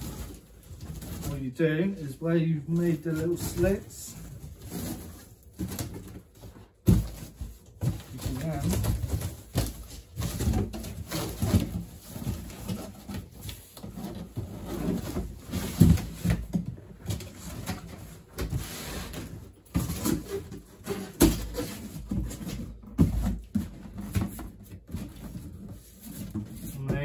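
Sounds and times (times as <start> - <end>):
cardboard box being folded: 0.0 - 27.0.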